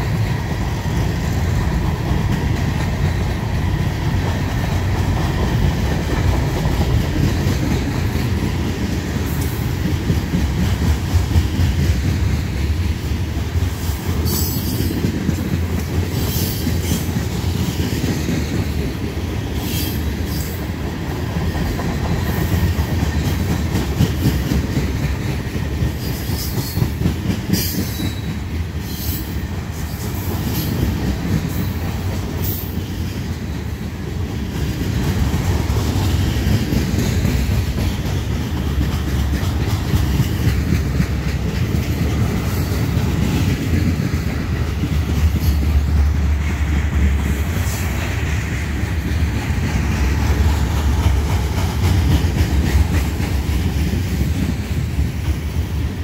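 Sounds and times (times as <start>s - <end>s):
train wheels rumbling and clattering: 0.0s - 56.0s.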